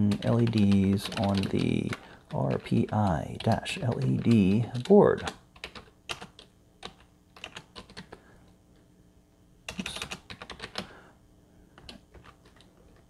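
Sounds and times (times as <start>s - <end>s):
typing on computer keyboard: 0.0s - 8.2s, 9.7s - 10.9s, 11.8s - 13.0s.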